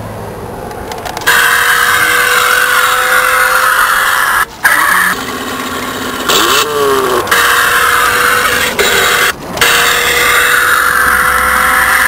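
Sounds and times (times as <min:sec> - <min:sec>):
electronic toy car engine sound: 0:01.2 - 0:12.0.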